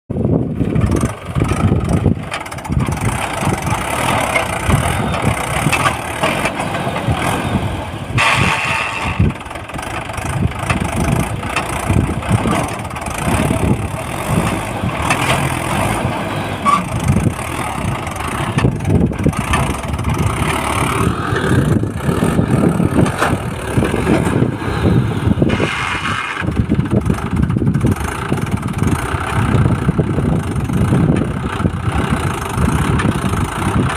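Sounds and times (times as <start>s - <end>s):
tractor diesel engine chugging: 0.1s - 33.9s.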